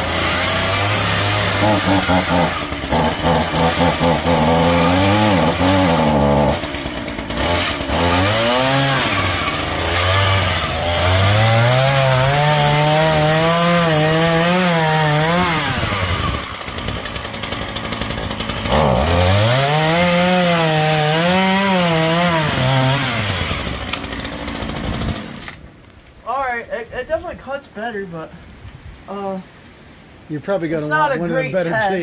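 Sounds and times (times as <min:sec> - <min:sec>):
chainsaw cutting log: 0:00.0 - 0:25.6.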